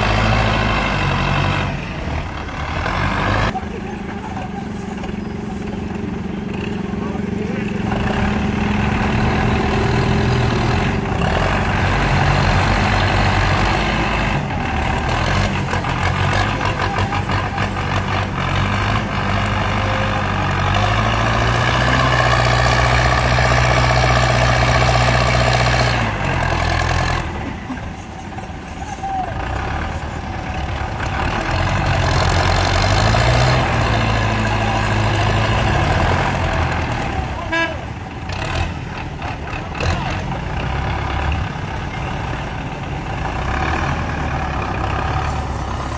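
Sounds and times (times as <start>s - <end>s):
tractor engine revving: 0.0s - 45.9s.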